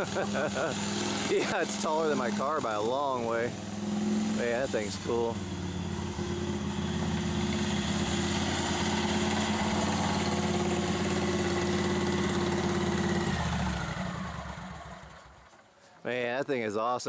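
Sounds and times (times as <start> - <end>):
lawn tractor engine idling: 0.0 - 15.9.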